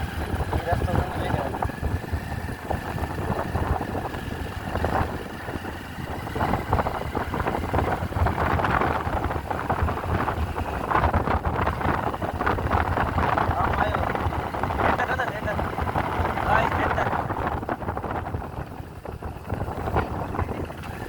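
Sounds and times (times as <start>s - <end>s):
motorcycle engine rumbling: 0.0s - 21.0s
road and wind noise: 0.0s - 21.0s.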